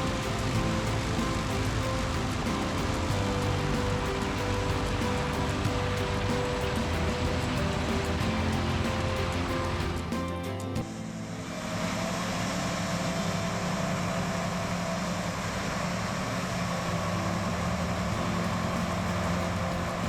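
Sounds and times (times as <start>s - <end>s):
combine engine droning: 0.0s - 20.0s.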